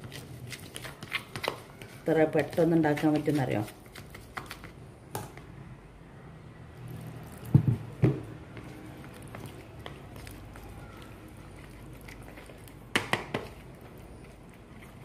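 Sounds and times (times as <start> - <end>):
spoon stirring wet batter: 0.0 - 4.8, 6.8 - 15.0.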